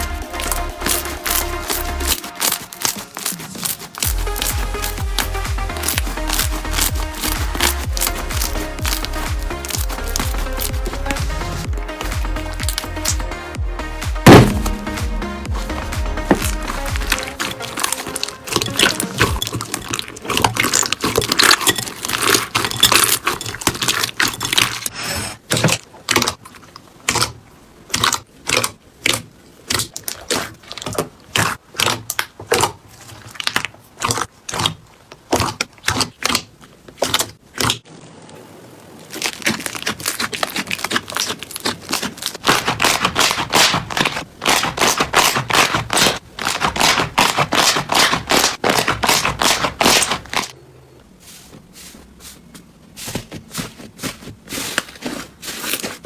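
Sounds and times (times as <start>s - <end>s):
slime crackling and popping: 0.0s - 13.4s, 14.2s - 24.9s, 27.0s - 37.9s, 38.9s - 50.5s.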